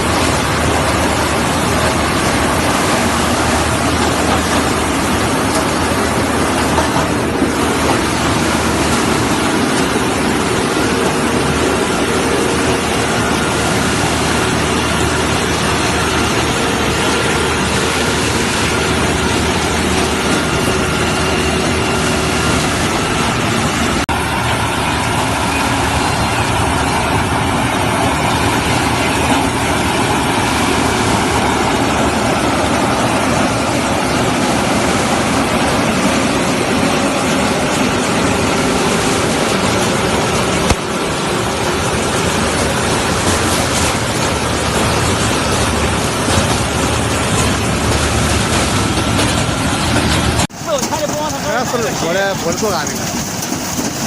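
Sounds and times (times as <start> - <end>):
harvester engine and machinery running: 0.0 - 54.0.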